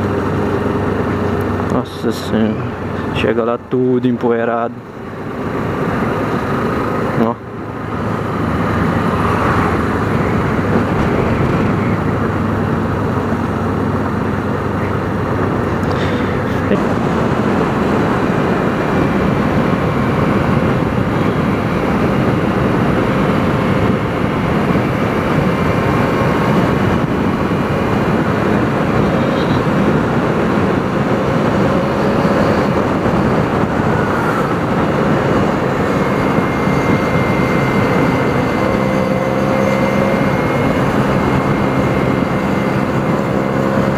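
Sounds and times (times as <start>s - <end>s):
motorcycle engine riding: 0.0s - 43.9s
wind noise: 0.0s - 43.9s.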